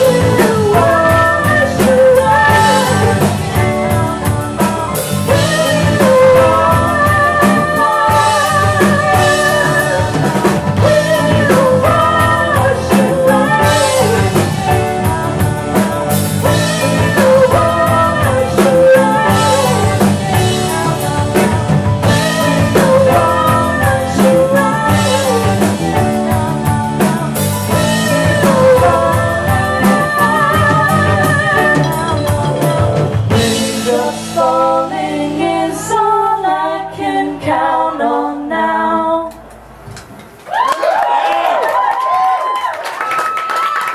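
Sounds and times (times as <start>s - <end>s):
rock song with singing: 0.0s - 39.5s.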